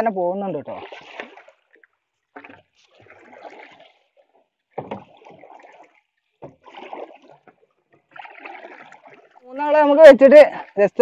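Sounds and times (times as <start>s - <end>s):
paddle splashing in water: 0.1s - 11.0s.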